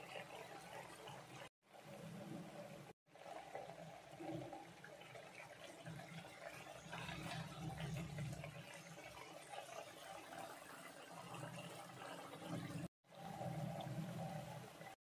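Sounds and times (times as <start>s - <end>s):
gravy boiling and bubbling: 0.0s - 15.0s.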